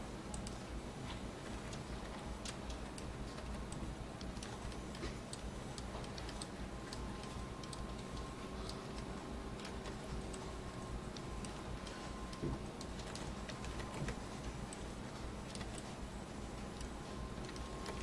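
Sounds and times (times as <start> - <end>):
steady low hum: 0.0 - 18.0
computer mouse clicking: 0.3 - 0.7, 1.4 - 18.0.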